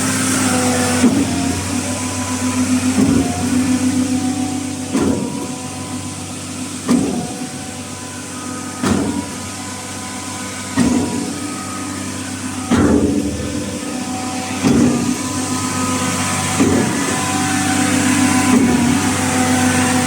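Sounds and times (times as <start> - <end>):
diesel concrete pump running: 0.0 - 20.0
pump cylinder knocking: 0.0 - 20.0.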